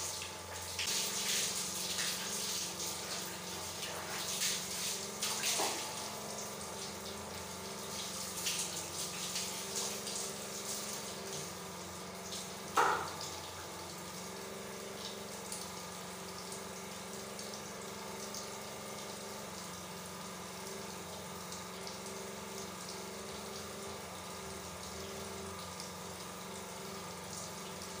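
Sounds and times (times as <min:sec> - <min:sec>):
water running and splashing: 0:00.0 - 0:28.0.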